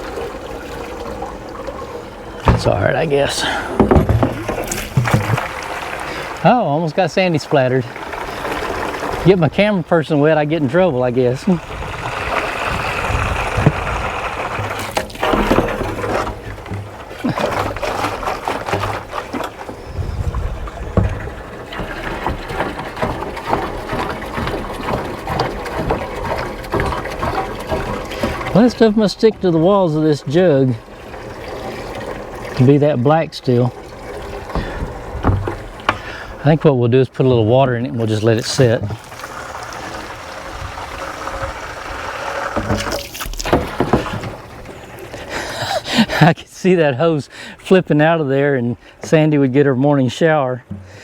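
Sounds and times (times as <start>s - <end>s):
water splashing inside plastic jug: 0.0s - 46.3s, 50.6s - 51.0s.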